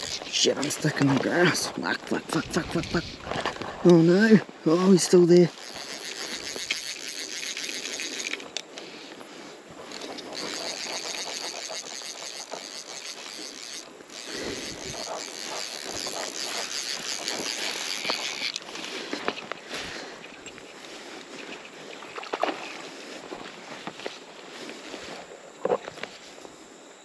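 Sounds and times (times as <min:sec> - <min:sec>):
rustling and small ticks: 0:00.0 - 0:26.6
high insect buzz: 0:00.0 - 0:27.0.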